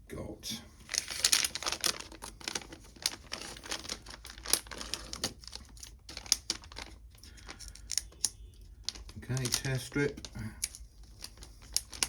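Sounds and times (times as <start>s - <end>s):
plastic bag crinkling: 0.8s - 12.0s.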